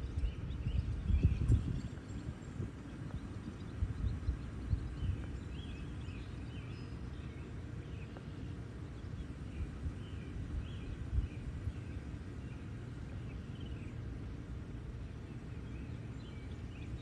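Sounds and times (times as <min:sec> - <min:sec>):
wind buffeting microphone: 0:00.0 - 0:07.8, 0:08.9 - 0:17.0.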